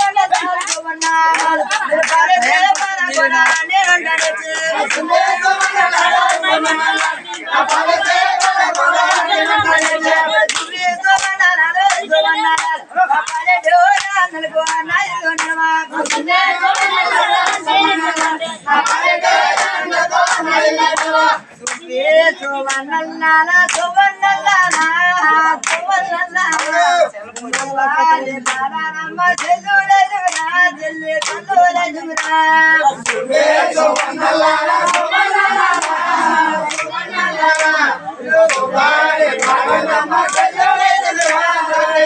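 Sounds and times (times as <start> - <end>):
crowd clapping in time: 0.0 - 42.0
men singing folk song: 0.0 - 42.0.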